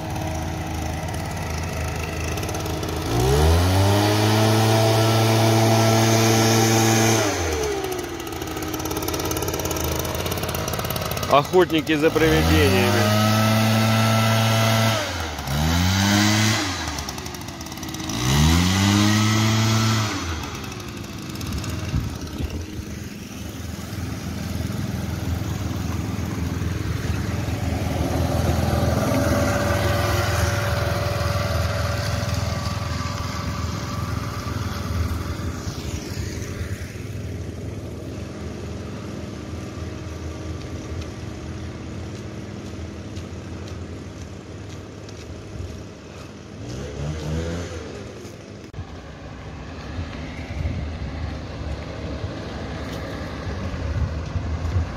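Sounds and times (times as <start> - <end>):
leaf blower engine: 0.0 - 54.9.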